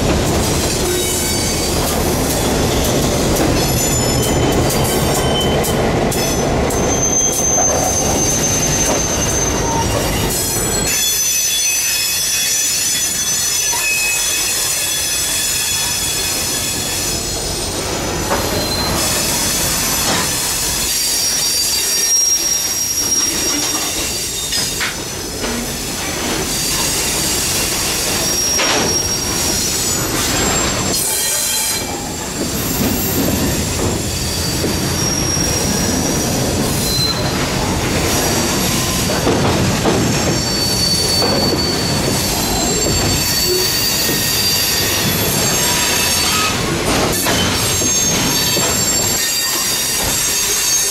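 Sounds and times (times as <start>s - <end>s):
rumble of train cars: 0.0s - 50.9s
train wheels squealing: 0.4s - 50.9s.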